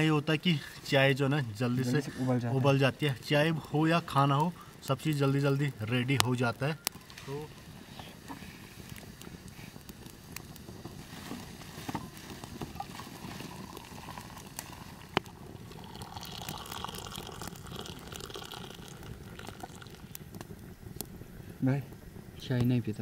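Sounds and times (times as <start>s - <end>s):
tea bubbling in a pan: 0.0s - 23.0s
wood fire crackling: 0.0s - 23.0s.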